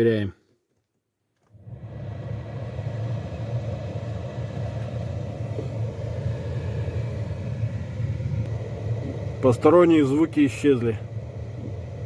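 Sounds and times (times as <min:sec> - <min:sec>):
car heater blower fan: 0:01.4 - 0:12.0.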